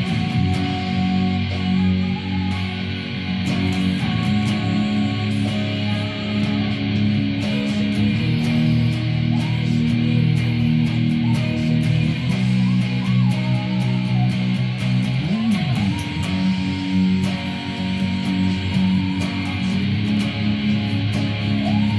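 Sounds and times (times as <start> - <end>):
electric guitar melody: 0.0 - 21.9
guitar and bass chords: 0.0 - 21.9.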